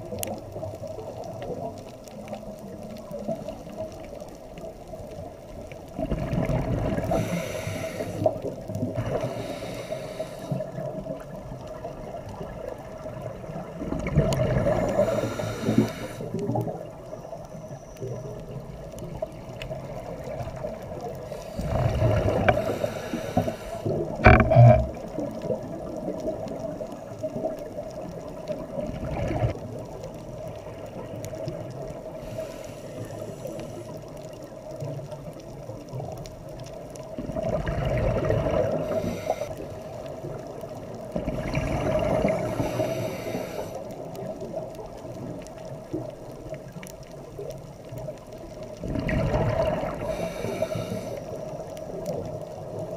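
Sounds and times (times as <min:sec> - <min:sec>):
faint steady hum: 0:00.0 - 0:52.9
underwater exhaled bubbles: 0:00.0 - 0:52.9.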